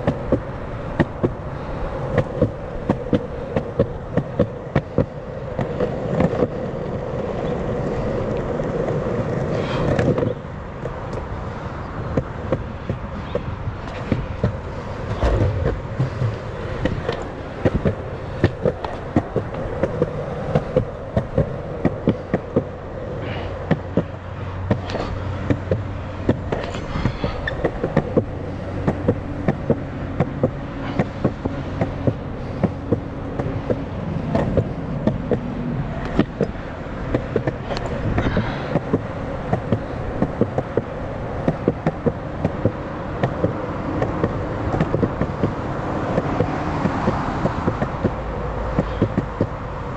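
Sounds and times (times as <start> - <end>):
skateboard wheels rolling on concrete: 0.0 - 49.9
wheels clacking over joints: 0.0 - 49.9.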